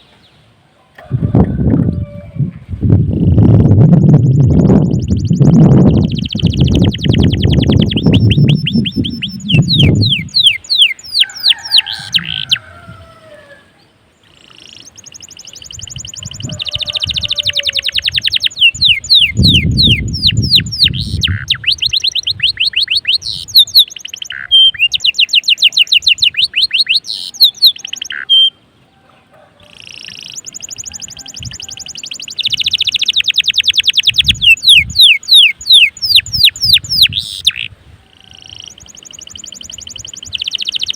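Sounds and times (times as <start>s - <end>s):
canary singing trills: 3.2s - 12.8s, 13.4s - 40.9s.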